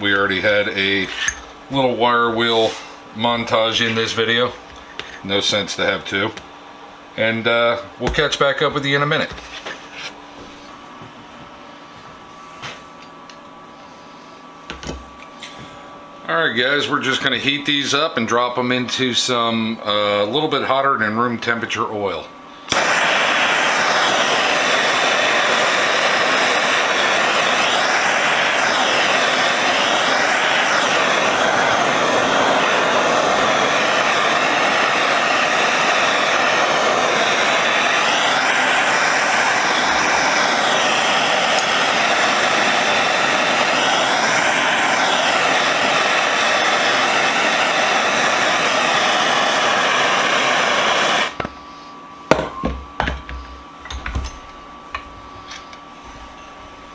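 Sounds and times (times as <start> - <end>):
gas torch flame roaring: 0.0 - 15.7, 16.4 - 51.6, 52.3 - 56.9.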